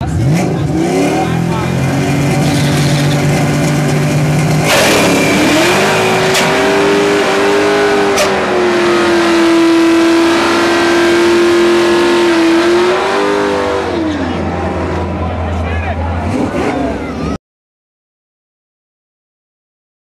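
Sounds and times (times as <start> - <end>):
car engine accelerating: 0.0 - 17.4.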